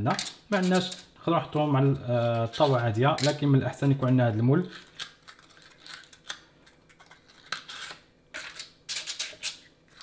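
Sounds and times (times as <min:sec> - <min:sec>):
paper crinkling: 0:01.5 - 0:10.0.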